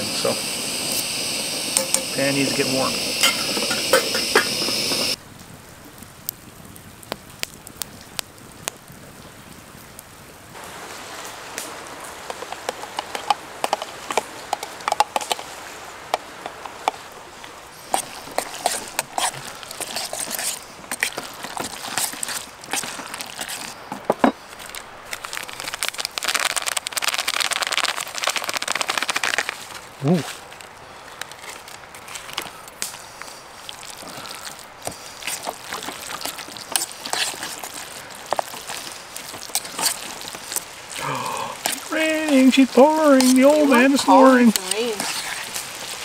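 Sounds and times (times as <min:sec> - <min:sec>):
frying pan sizzling and popping: 0:00.0 - 0:17.1, 0:17.8 - 0:29.9, 0:33.6 - 0:46.0.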